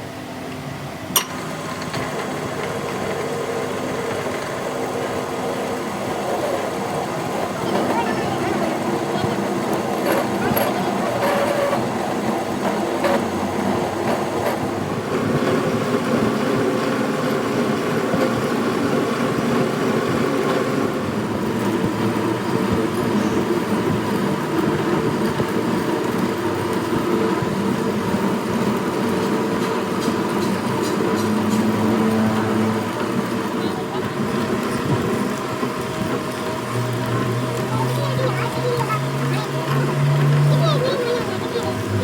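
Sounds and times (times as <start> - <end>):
machine humming: 0.0 - 42.0.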